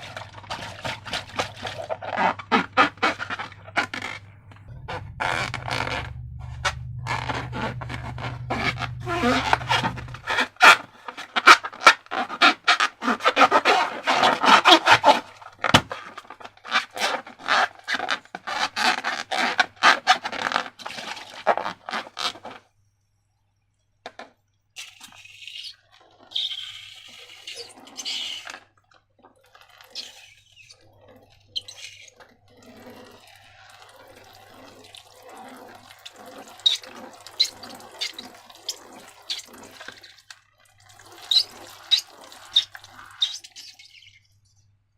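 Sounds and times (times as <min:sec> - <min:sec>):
slime squelching by hand: 0:00.0 - 0:22.5, 0:24.8 - 0:44.6.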